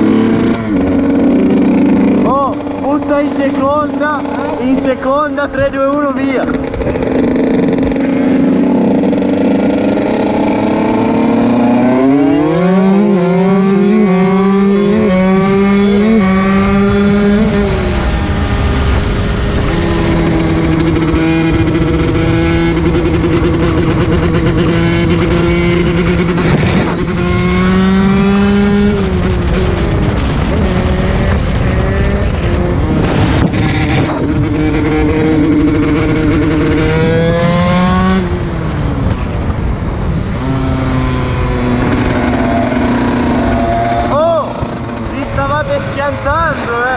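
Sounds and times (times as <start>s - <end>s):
dirt bike engine revving: 0.0s - 38.8s, 40.3s - 46.9s.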